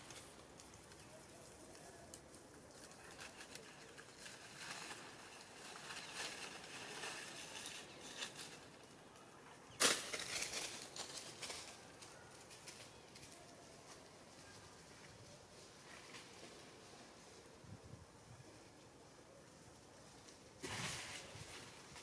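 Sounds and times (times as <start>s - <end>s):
leaves and twigs rustling: 0.0s - 22.0s.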